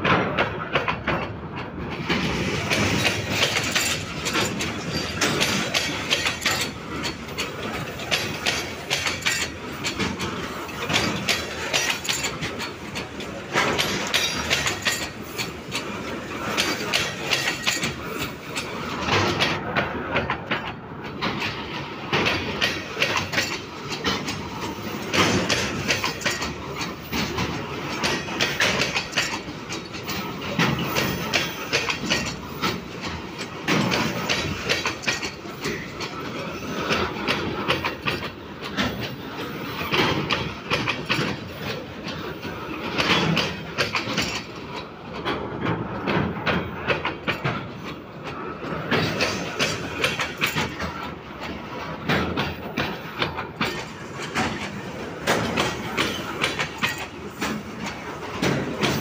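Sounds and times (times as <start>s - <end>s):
heavy clanks of train bogies: 0.0s - 59.0s
train wheels clattering on rails: 0.0s - 59.0s.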